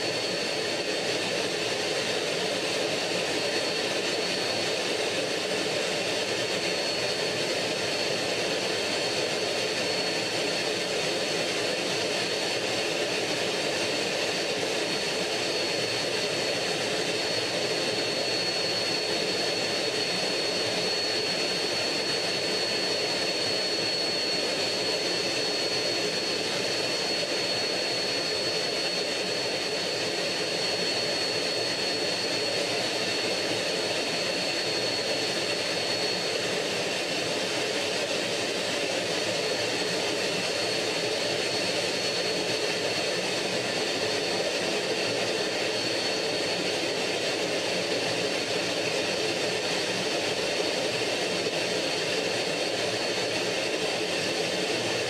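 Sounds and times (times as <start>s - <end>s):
jet engine and air rush: 0.0s - 55.0s.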